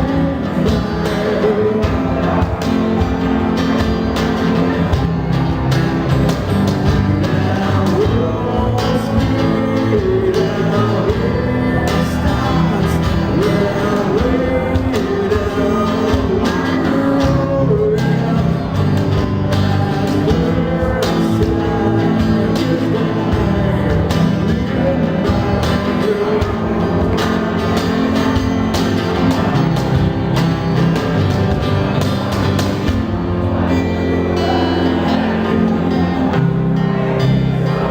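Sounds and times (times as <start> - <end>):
cajon beats: 0.0 - 36.4
man singing: 0.0 - 37.9
strummed acoustic guitars: 0.0 - 37.9.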